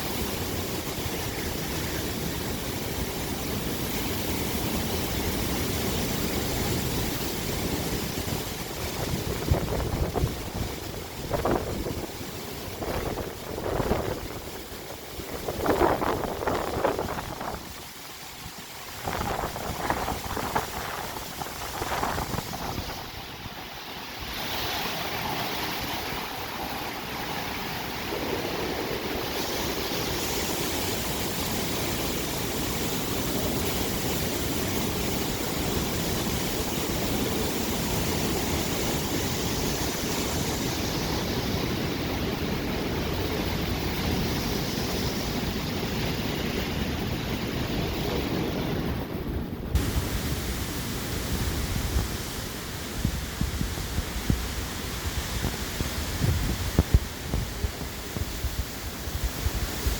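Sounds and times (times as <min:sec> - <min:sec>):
hurricane wind: 0:00.0 - 0:59.9
rain: 0:00.0 - 0:59.9.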